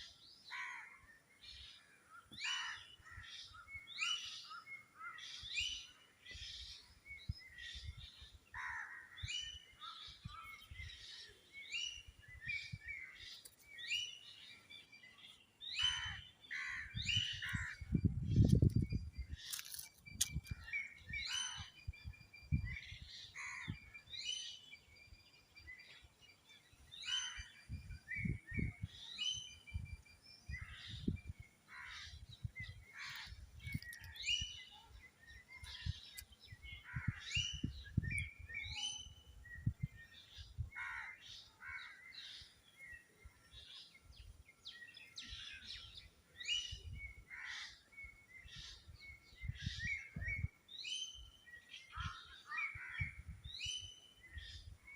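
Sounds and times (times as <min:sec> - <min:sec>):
birds chirping and calling: 0:00.0 - 0:54.9.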